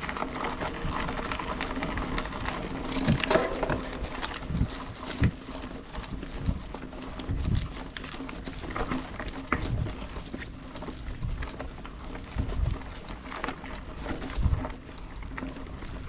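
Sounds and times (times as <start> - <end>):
bike chain and frame rattling: 0.0 - 16.0
wheels knocking on bumps: 0.0 - 16.0.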